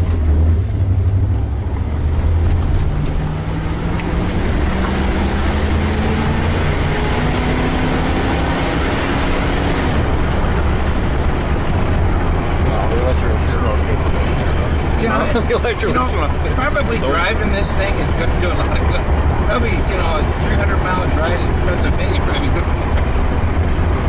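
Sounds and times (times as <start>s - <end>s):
car engine inside cabin: 0.0s - 24.0s
road and wind noise: 0.0s - 24.0s.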